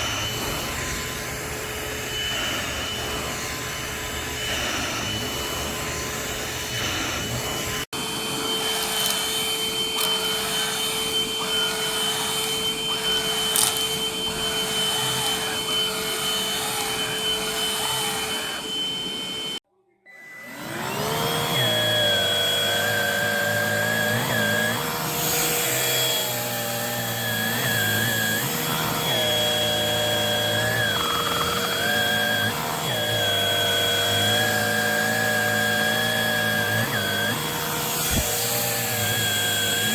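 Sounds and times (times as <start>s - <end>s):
hand vacuum whining: 0.0s - 19.6s, 20.3s - 39.9s.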